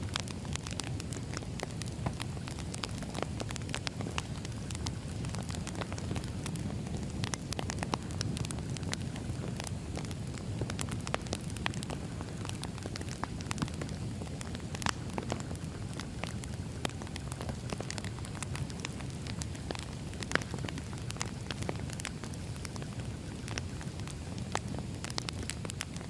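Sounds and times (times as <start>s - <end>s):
burning logs crackling and popping: 0.0s - 26.0s
fire rumbling: 0.0s - 26.0s.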